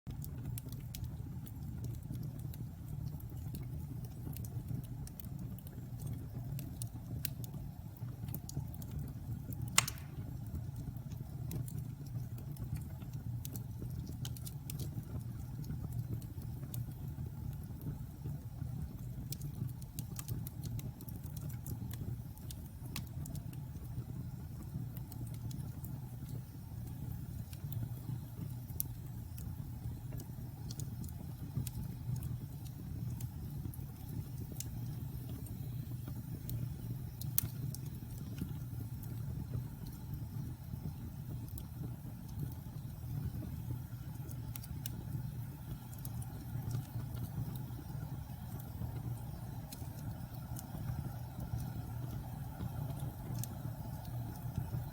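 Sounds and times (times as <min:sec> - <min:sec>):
fire crackling and popping: 0:00.1 - 0:54.9
fire low rumble: 0:00.1 - 0:54.9.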